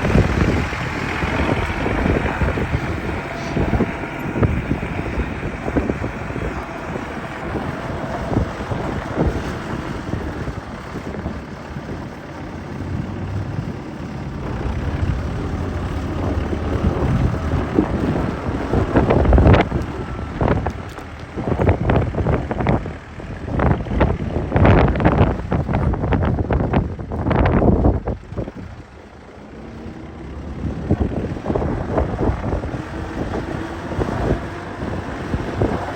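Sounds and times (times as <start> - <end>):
tractor diesel engine running: 0.0 - 35.9
wind buffeting microphone: 0.0 - 35.9.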